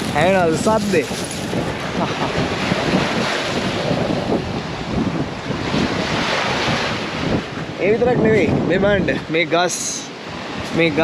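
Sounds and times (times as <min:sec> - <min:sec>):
small waves breaking on beach: 0:00.0 - 0:11.0
wind buffeting microphone: 0:00.0 - 0:11.0.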